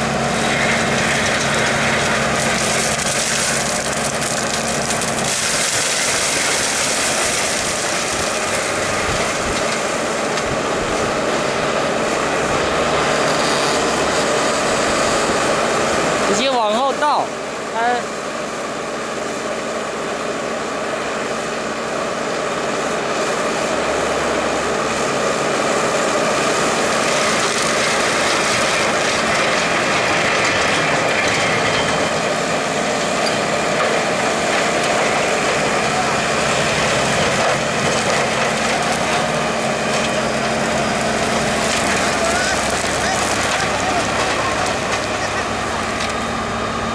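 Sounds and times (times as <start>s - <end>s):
heavy machine noise: 0.0s - 46.9s.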